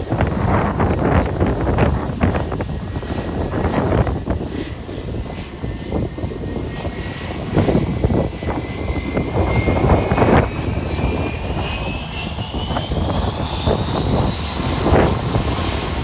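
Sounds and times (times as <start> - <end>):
airliner engines whining: 0.0 - 16.0
wind buffeting microphone: 0.0 - 16.0.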